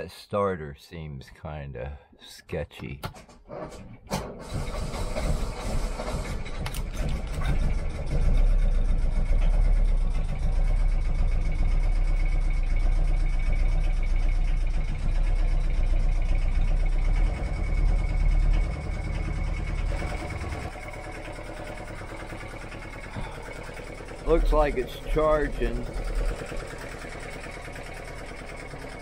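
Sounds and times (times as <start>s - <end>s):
boat engine idling with whine: 4.6s - 29.0s.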